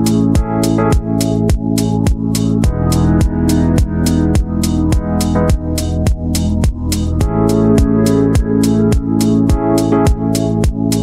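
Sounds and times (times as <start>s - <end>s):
electronic music: 0.0s - 11.0s
synthesizer chords: 0.0s - 11.0s
kick drum: 0.4s - 10.9s.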